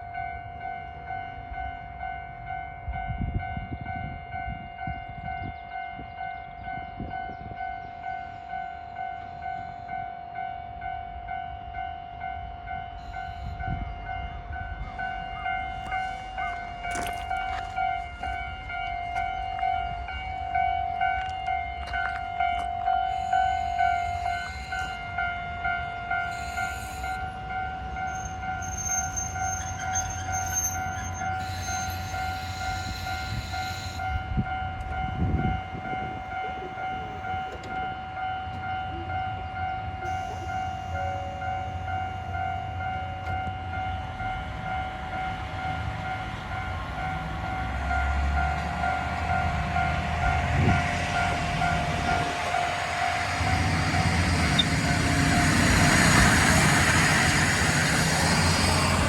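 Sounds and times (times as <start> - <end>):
diesel railcar rumble: 0.0 - 59.0
level crossing warning bell ringing: 0.0 - 59.0.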